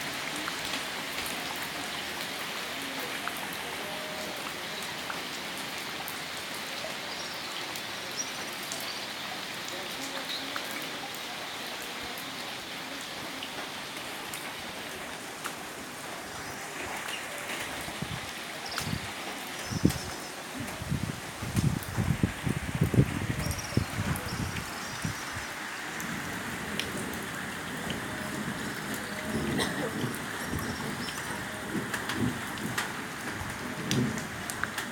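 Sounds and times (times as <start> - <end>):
heavy rain falling: 0.0 - 34.9
raindrops ticking: 0.0 - 34.9.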